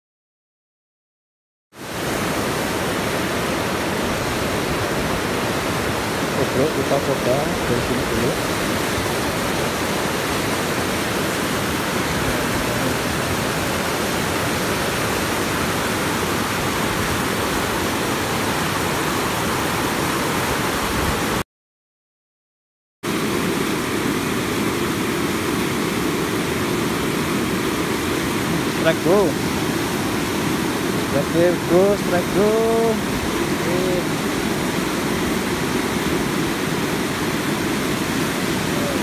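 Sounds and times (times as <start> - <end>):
river water rushing: 1.8 - 21.4, 23.1 - 39.0.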